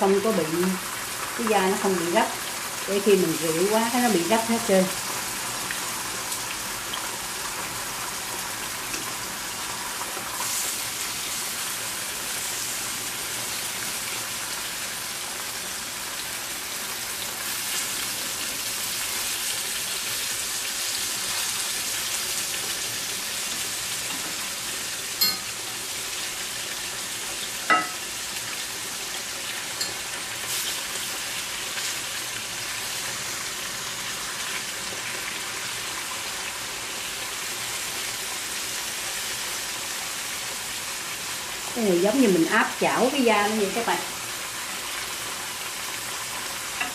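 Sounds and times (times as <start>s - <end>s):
pork sizzling in a pan: 0.0s - 46.9s.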